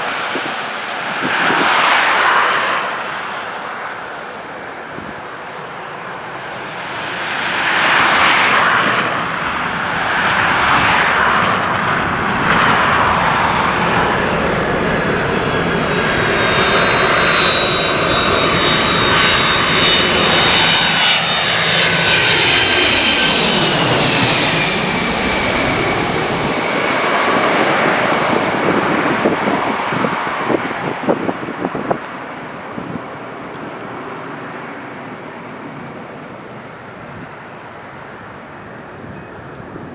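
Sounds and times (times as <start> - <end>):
airliner passing close by: 0.0 - 39.9
high engine whine: 2.8 - 39.9.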